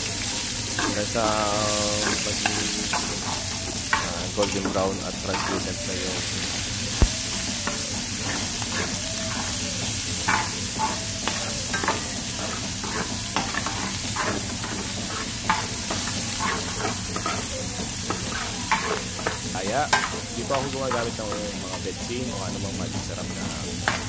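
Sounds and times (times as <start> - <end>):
onions sizzling in oil: 0.0 - 24.0
metal utensil scraping pan: 0.1 - 24.0.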